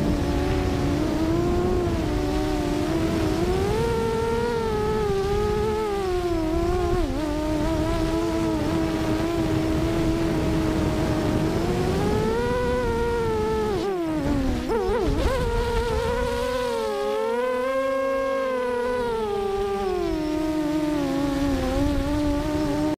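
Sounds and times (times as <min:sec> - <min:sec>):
quadcopter motors whining: 0:00.0 - 0:22.9.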